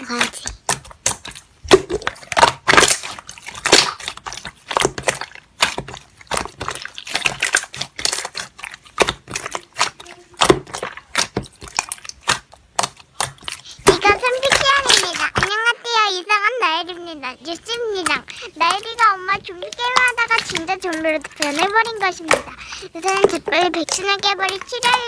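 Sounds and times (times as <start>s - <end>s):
slime squished by hand: 0.0s - 16.1s, 16.9s - 25.0s.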